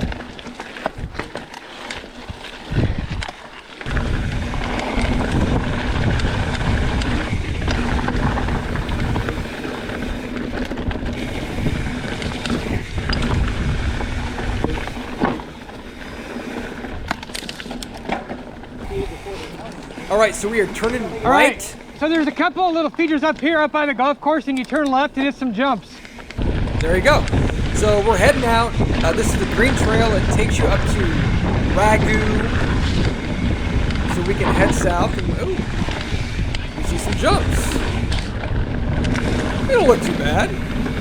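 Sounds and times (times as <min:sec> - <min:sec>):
wind on microphone: 0:00.0 - 0:01.4, 0:02.1 - 0:22.0, 0:26.3 - 0:41.0
bike tyres rolling over dirt: 0:00.0 - 0:41.0.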